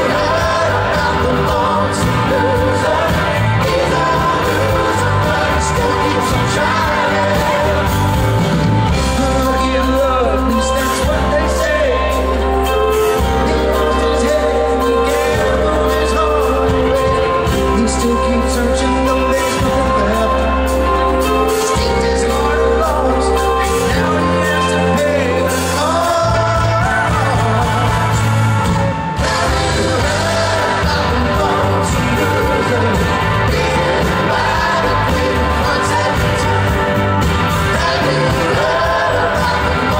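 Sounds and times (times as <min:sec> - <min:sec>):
lead and harmony vocals: 0:00.0 - 0:39.9
live soft rock band: 0:00.0 - 0:39.9
person singing: 0:00.0 - 0:39.9.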